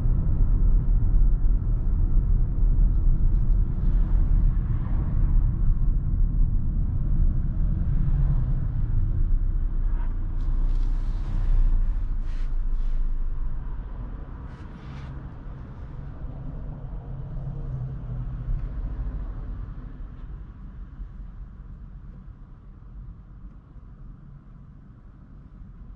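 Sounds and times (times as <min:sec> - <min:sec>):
car engine and road rumble: 0:00.0 - 0:25.9.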